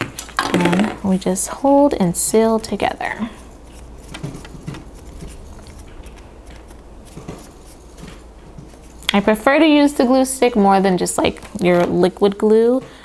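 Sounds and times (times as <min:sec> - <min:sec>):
soft ticks and paper rustles: 0:02.4 - 0:13.0.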